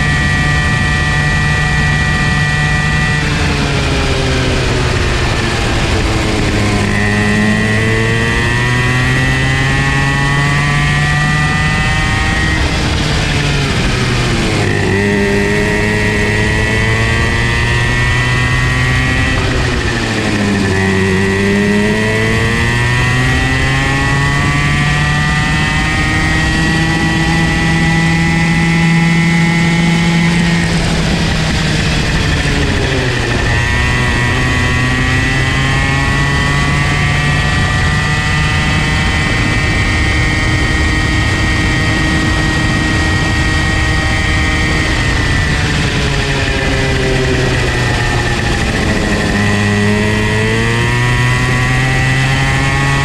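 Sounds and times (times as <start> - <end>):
kart engine revving: 0.0 - 53.0.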